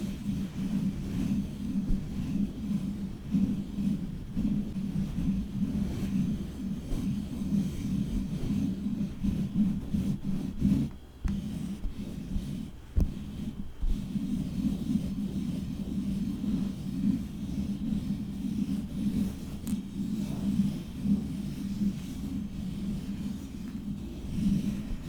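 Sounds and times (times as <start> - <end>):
fingernails scratching a microphone: 0.0 - 25.0.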